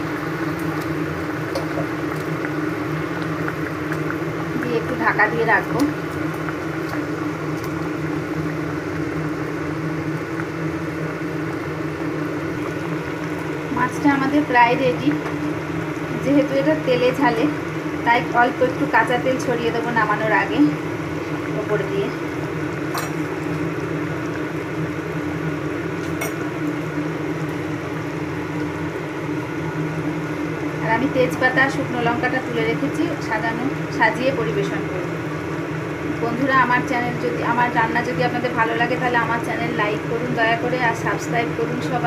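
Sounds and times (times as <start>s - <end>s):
gravy simmering in a pan: 0.0s - 19.0s, 19.7s - 31.4s, 34.9s - 39.3s
whirring motor hum: 0.0s - 42.0s.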